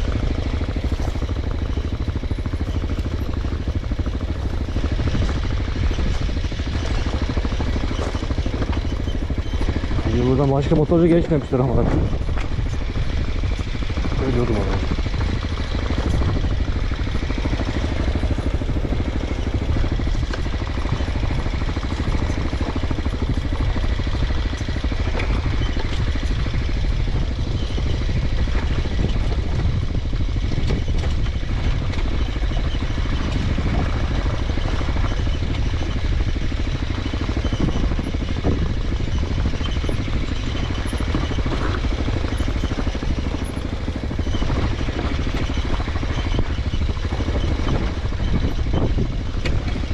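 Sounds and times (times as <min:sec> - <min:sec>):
motorcycle engine running: 0:00.0 - 0:49.9
wind rumble on microphone: 0:00.0 - 0:49.9.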